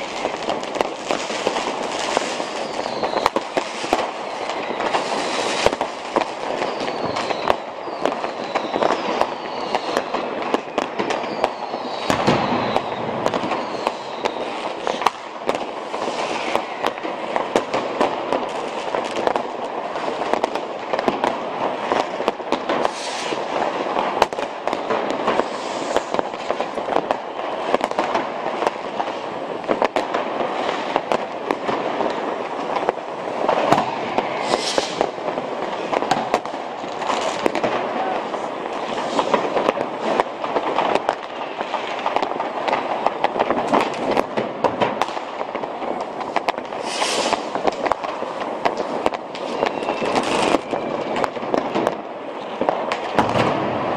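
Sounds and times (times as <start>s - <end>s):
fireworks and firecrackers crackling: 0.0s - 53.9s
whistling fireworks: 0.0s - 53.9s.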